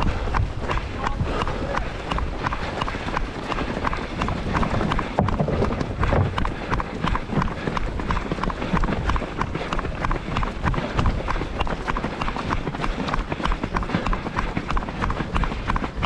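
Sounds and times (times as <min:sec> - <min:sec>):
running footsteps on road: 0:00.0 - 0:16.0
wind rumble on microphone: 0:00.0 - 0:16.0.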